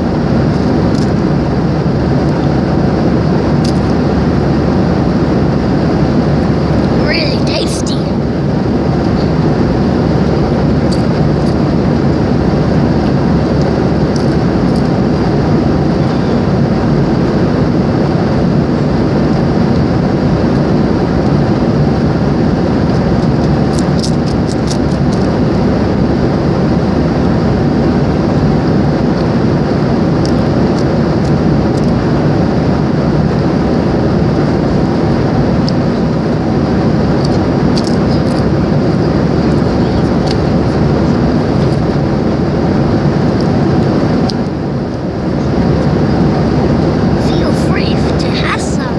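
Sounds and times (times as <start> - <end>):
airliner cabin engine drone: 0.0 - 48.9.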